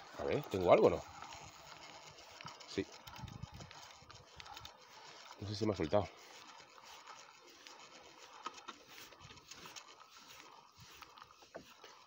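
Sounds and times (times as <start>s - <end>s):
fishing reel ticking and rubbing: 0.0s - 12.0s.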